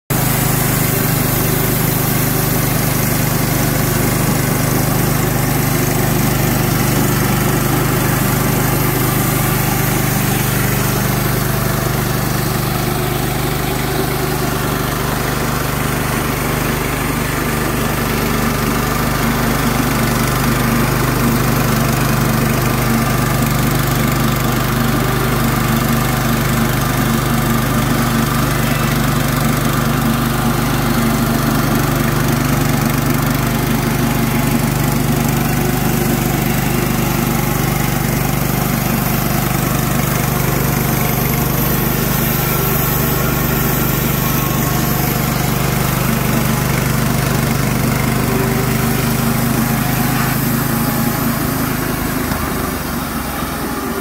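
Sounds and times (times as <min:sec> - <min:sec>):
gasoline engine running: 0:00.0 - 0:54.0.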